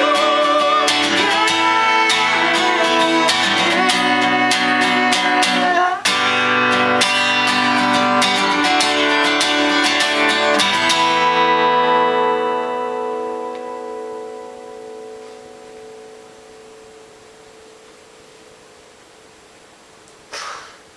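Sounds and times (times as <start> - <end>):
acoustic guitar strumming: 0.0 - 19.3.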